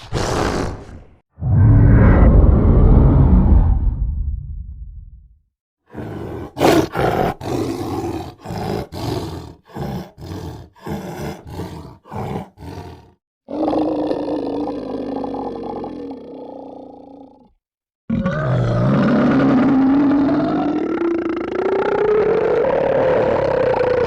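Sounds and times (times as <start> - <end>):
monster growling: 0.0 - 4.4, 5.9 - 17.5, 18.1 - 24.0
monster roar: 0.0 - 4.4, 5.9 - 17.5, 18.1 - 24.0.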